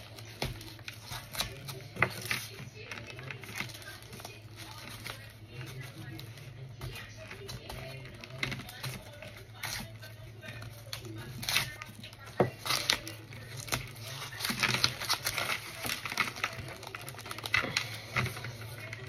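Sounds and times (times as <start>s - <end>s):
crunching and crumbling snaps: 0.0s - 19.0s.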